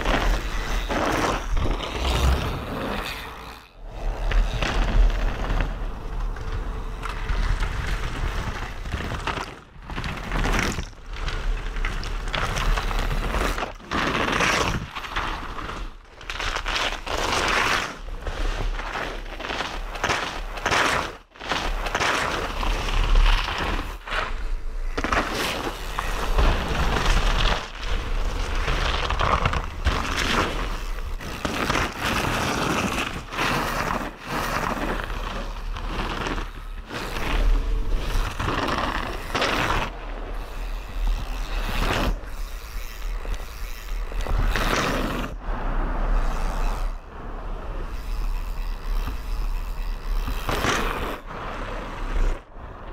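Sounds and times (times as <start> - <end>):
bike knocking and rattling: 0.0 - 52.9
bike tyres rolling over dirt: 0.0 - 52.9.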